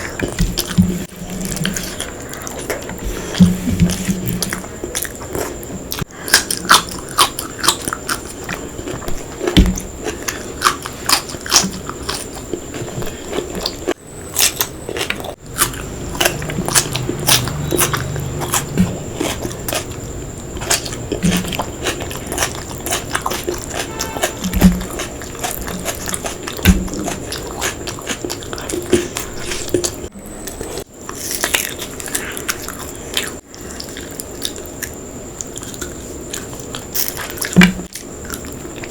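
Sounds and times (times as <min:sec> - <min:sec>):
crunchy bites: 0:04.1 - 0:38.9
close chewing and wet mouth clicks: 0:04.5 - 0:38.9.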